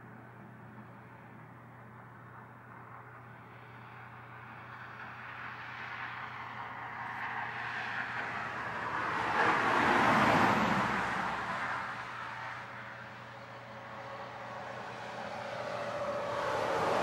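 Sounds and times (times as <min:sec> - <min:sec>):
truck passing on highway: 0:00.0 - 0:17.0.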